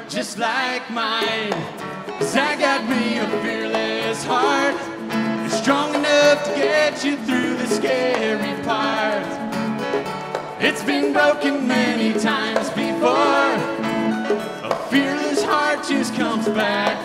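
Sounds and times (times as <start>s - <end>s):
person singing: 0.0s - 9.5s, 10.6s - 17.0s
live band playing: 1.0s - 17.0s.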